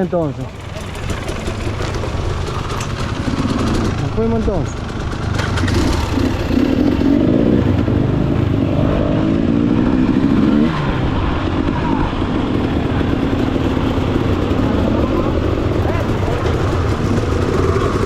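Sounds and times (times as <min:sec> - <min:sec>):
motorcycle engine revving: 0:00.0 - 0:18.0
motorcycle engines running: 0:00.0 - 0:18.0.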